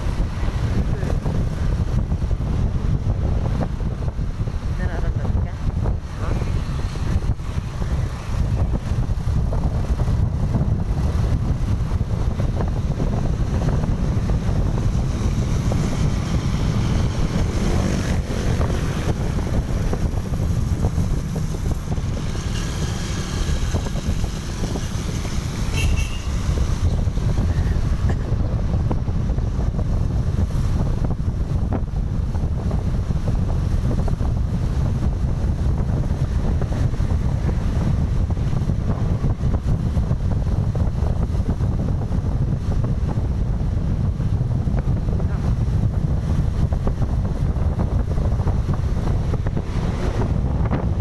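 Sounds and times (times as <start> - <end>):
motorcycle road and engine noise: 0.0 - 51.0
wind buffeting microphone: 0.0 - 51.0.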